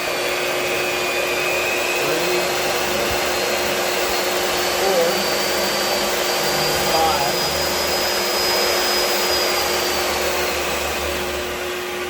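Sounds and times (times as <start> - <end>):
drill press motor whining: 0.0 - 12.0.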